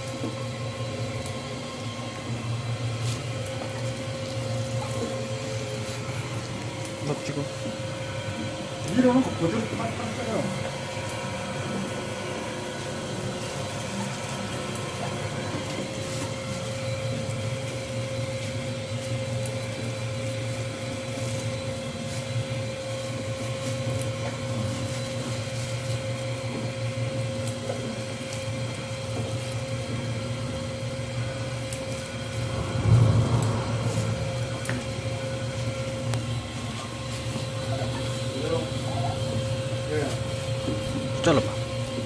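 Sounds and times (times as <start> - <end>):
machine motor hum and whine: 0.0 - 42.0.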